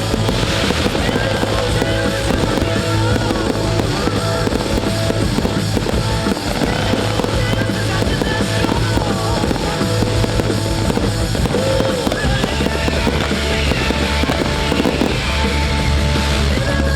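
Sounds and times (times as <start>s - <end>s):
fireworks banging and crackling: 0.0s - 16.9s.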